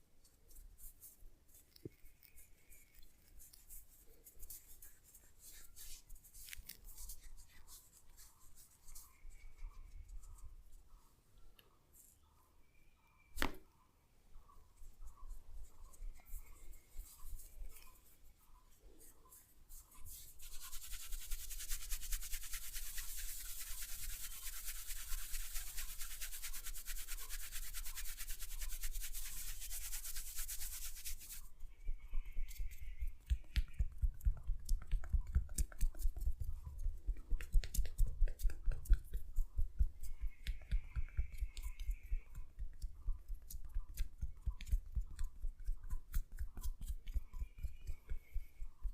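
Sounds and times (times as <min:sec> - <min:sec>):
rubbing and scratching strokes: 0:00.0 - 0:12.3, 0:14.4 - 0:48.9.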